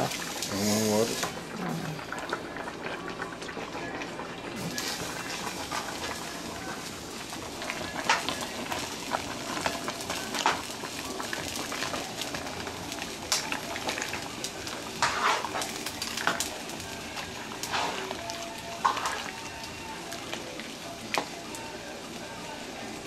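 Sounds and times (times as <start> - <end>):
simmering pot hissing: 0.0 - 23.0.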